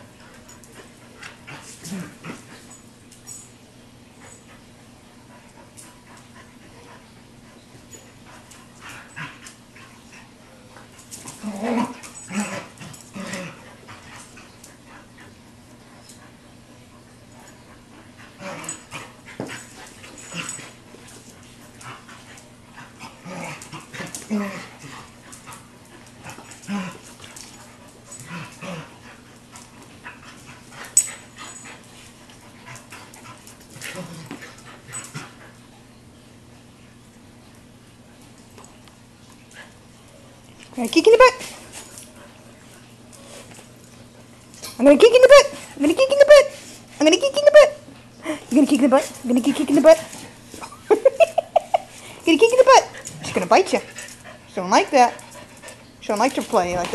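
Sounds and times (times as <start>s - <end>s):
dogs play-fighting: 0.0s - 56.9s.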